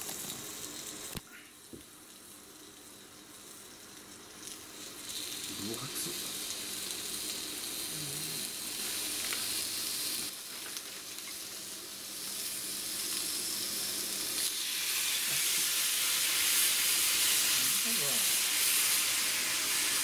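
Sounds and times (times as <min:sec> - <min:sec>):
pork sizzling in a grill pan: 0:00.0 - 0:20.0.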